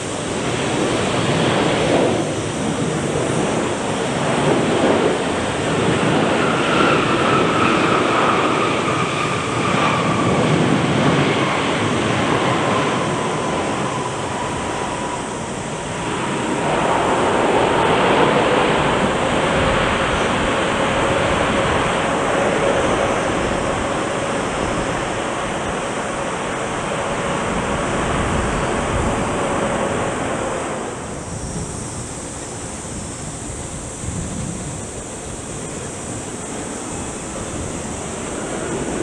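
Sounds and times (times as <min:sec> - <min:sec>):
jet airliner roar and whine: 0:00.0 - 0:39.0.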